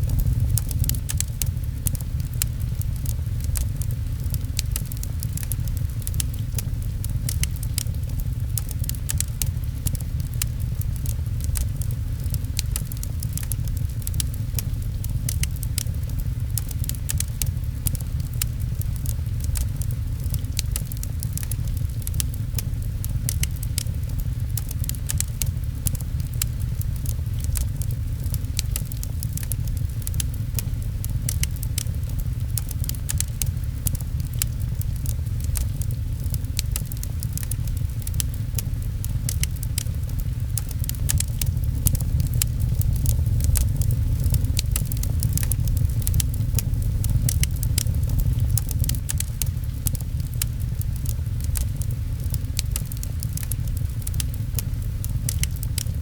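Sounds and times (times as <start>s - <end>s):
fireplace crackling: 0.0s - 56.0s
rain on a window: 0.0s - 56.0s.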